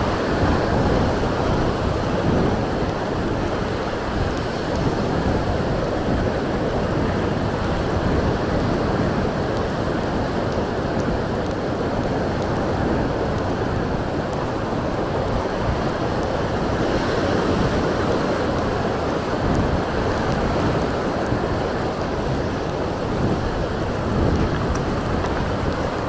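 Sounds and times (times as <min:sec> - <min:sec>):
sea surf washing on beach: 0:00.0 - 0:26.0
wind buffeting microphone: 0:00.0 - 0:26.0.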